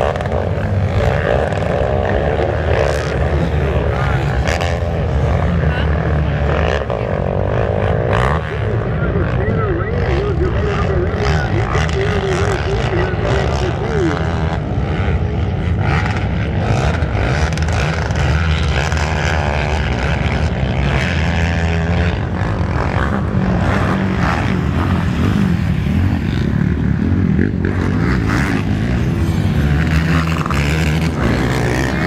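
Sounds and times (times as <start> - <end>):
quad engines buzzing: 0.0 - 32.0.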